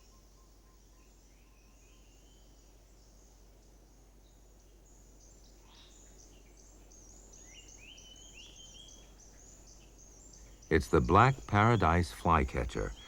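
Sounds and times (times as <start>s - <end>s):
faint bird chirps and whistles: 0.0s - 12.2s, 12.8s - 13.0s
low steady hum: 0.0s - 13.0s.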